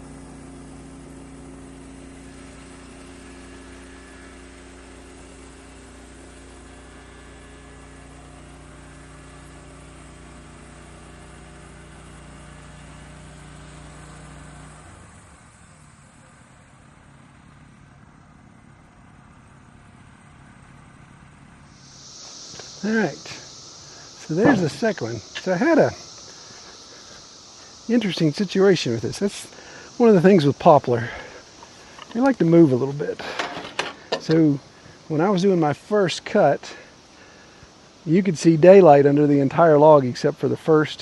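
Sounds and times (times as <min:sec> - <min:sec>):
faint background hiss: 0:00.0 - 0:41.0
sawmill engine running: 0:00.0 - 0:41.0.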